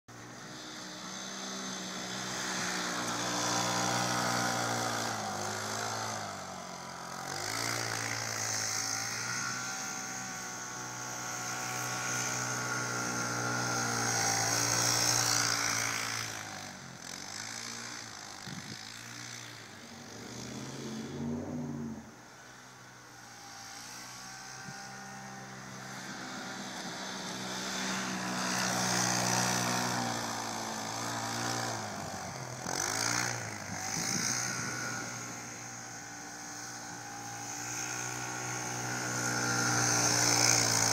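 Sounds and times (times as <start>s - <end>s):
vehicle engine revving: 0.1s - 40.9s.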